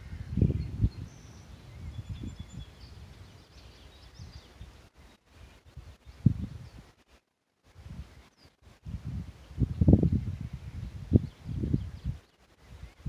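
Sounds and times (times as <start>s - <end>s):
wind buffeting microphone: 0.0s - 6.9s, 7.7s - 13.0s
faint bird chirps: 0.0s - 7.2s, 8.0s - 8.6s, 9.4s - 13.0s.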